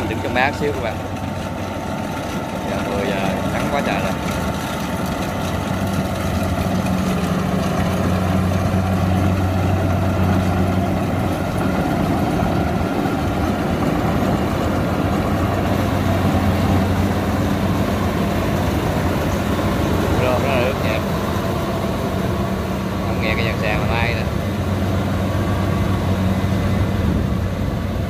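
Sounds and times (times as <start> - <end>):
diesel engine hum: 0.0 - 28.0
harvester machinery noise: 0.0 - 28.0.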